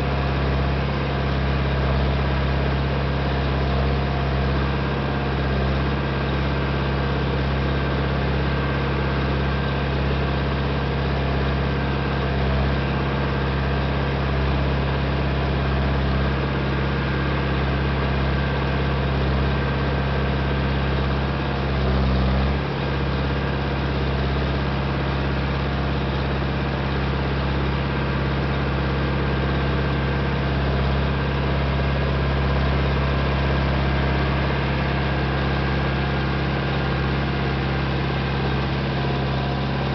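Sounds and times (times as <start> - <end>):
tractor engine under load: 0.0 - 39.9.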